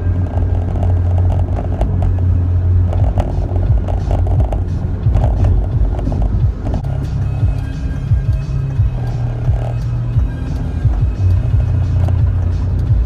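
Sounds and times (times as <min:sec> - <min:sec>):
car cabin road and engine rumble: 0:00.0 - 0:13.0
small clicks and rattles: 0:00.0 - 0:13.0.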